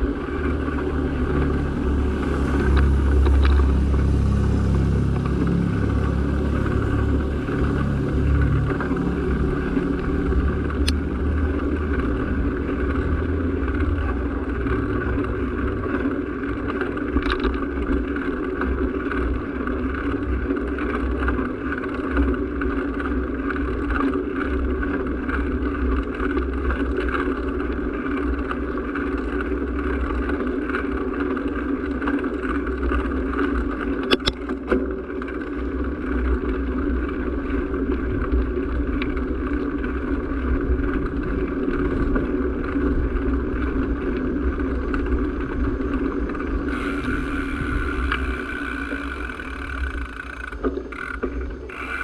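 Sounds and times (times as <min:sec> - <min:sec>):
small vehicle humming: 0:00.0 - 0:52.0
wind rumble on microphone: 0:00.0 - 0:52.0.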